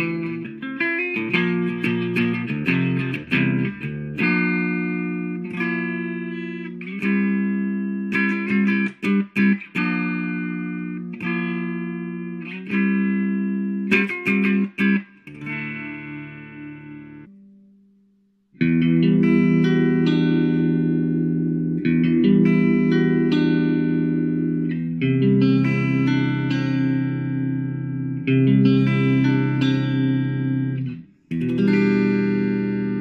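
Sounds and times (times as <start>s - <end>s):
electric guitar chord riff: 0.0s - 17.7s, 18.6s - 33.0s.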